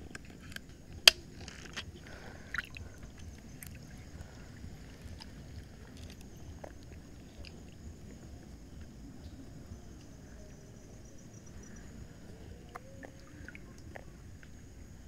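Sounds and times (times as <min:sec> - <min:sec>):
steady low rumble: 0:00.0 - 0:15.0
water sloshing and gurgling: 0:00.0 - 0:15.0.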